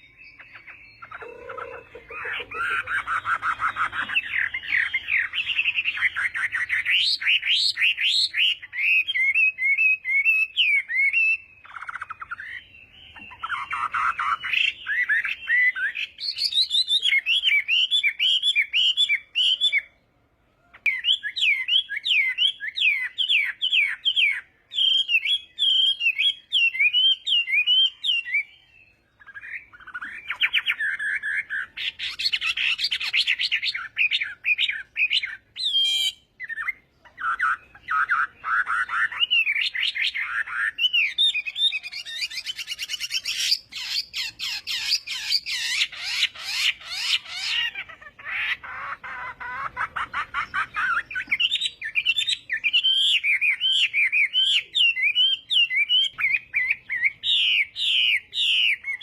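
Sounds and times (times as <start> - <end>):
bird singing whistled phrases: 0.0 - 20.0, 20.8 - 59.0.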